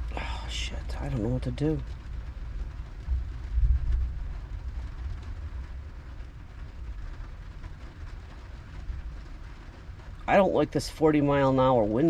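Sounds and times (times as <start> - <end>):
storm wind gusting: 0.0 - 10.4.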